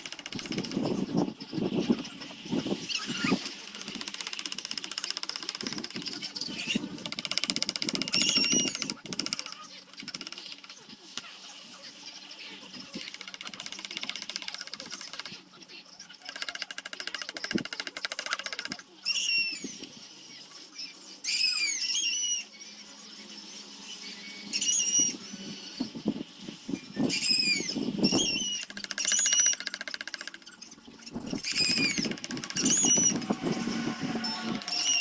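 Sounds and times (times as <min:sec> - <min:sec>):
small bird chirping: 0:00.0 - 0:35.0.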